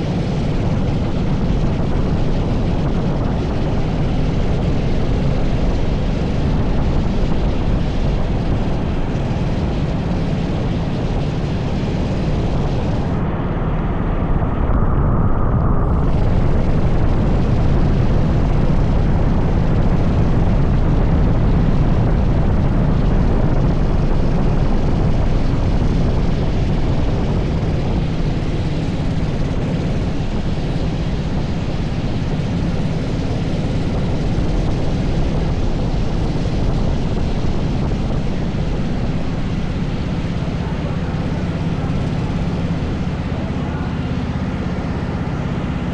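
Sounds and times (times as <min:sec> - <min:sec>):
kart engine running: 0:00.0 - 0:13.7, 0:15.9 - 0:45.9
wind rushing on microphone: 0:00.0 - 0:45.9.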